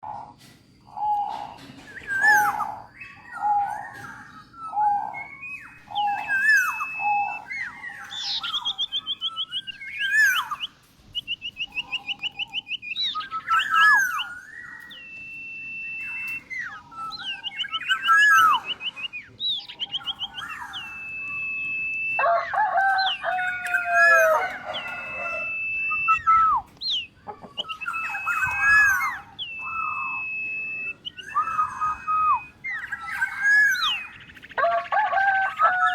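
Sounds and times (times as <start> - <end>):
dove cooing: 0.0 - 35.9
songbirds whistling and trilling: 0.0 - 35.9.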